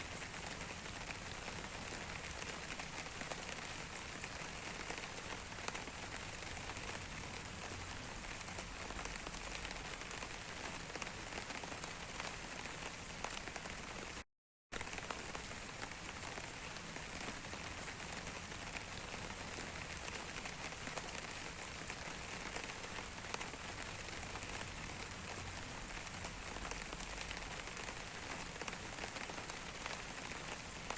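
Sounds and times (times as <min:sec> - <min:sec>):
rain pattering: 0:00.0 - 0:30.9.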